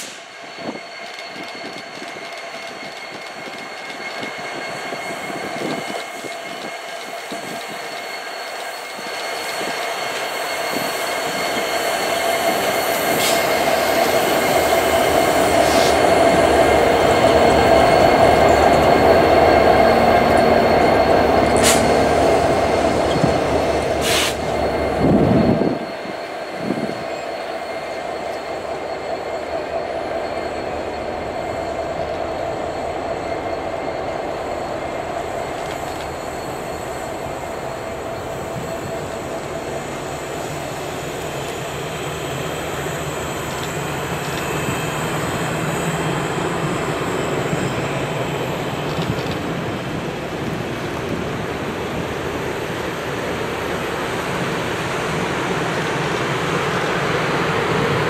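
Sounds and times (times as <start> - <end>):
diesel locomotive engines rumbling: 0.0 - 58.0
train wheel squeal: 0.0 - 58.0.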